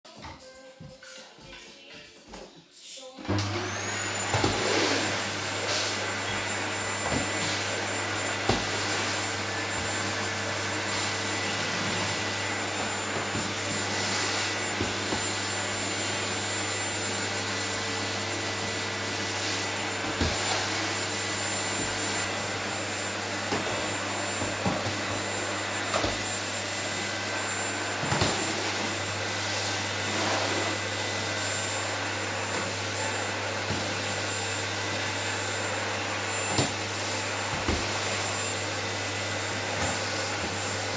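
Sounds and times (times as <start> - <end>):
vacuum cleaner running: 3.2 - 40.9.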